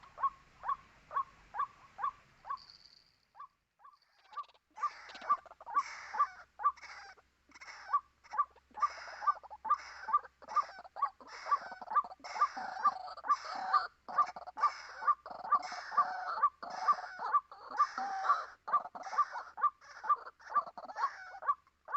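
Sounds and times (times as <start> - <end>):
bird calling harsh kwak notes: 0.0 - 21.9.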